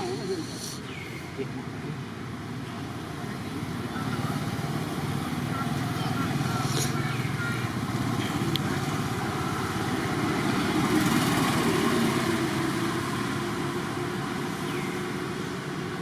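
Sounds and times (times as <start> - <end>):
vehicle engine passing by: 2.9 - 16.0.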